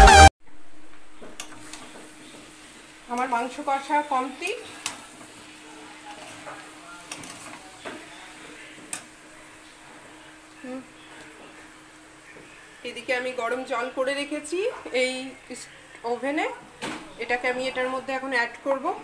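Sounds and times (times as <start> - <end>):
faint sizzle: 0.4 - 19.0.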